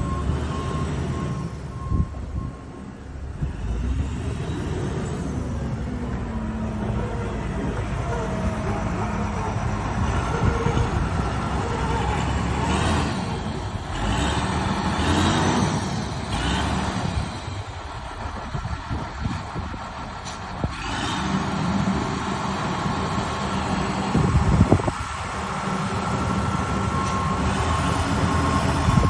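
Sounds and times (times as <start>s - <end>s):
heavy diesel machinery running: 0.0s - 29.0s.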